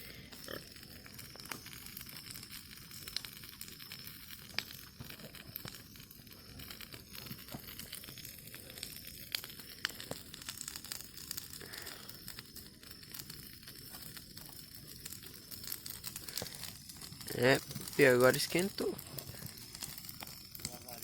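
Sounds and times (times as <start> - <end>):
bonfire crackling: 0.0 - 21.0
sharp fire pops: 0.1 - 21.0.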